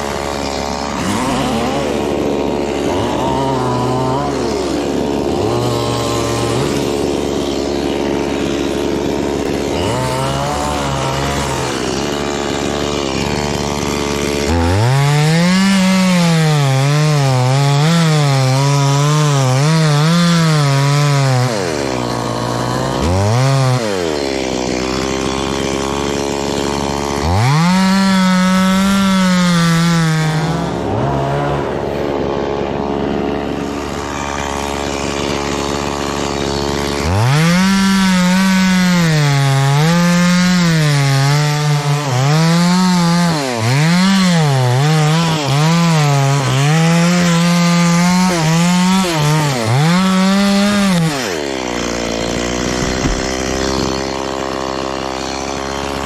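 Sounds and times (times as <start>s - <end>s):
chainsaw cutting wood: 0.0s - 56.0s
chainsaw idling: 0.0s - 56.0s.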